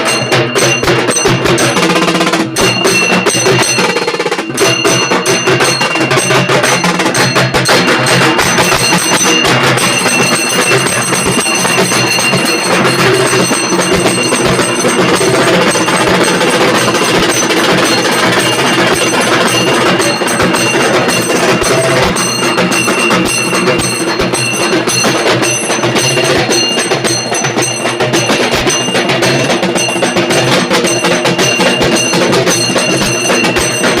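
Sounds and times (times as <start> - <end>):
frame drums played fast: 0.0 - 34.0
high ringing tone: 0.0 - 34.0.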